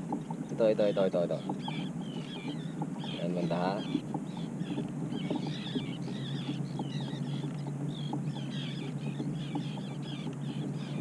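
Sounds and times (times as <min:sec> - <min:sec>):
faint clicks: 0:00.0 - 0:11.0
seabirds calling: 0:00.0 - 0:11.0
steady low hum: 0:00.0 - 0:11.0.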